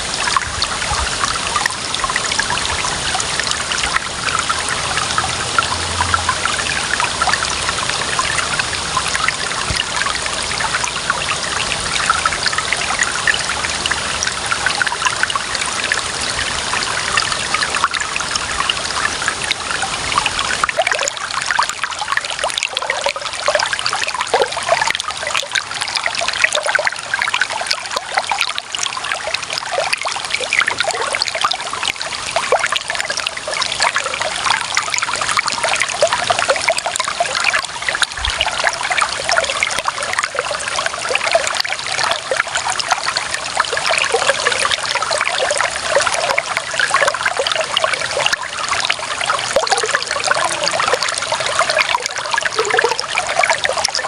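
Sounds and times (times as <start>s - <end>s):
water trickling over stones: 0.0s - 54.0s.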